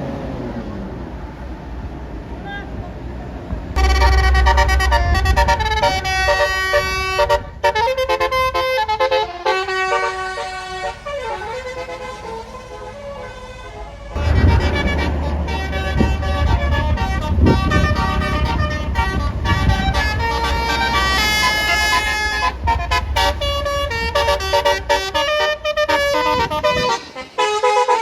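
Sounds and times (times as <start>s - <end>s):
passing vehicle engine rumble: 0.0s - 28.0s
bus musical air horn tune: 3.8s - 28.0s.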